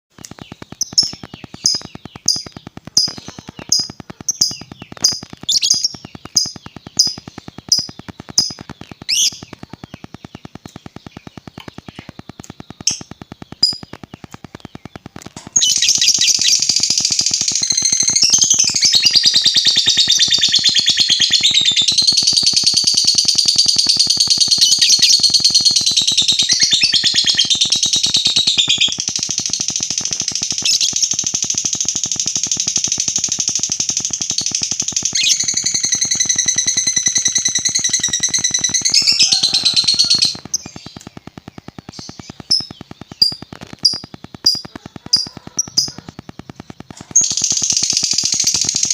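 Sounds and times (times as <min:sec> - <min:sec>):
bird long continuous trill: 0:00.1 - 0:48.9
bird sharp high chirps: 0:00.1 - 0:48.9.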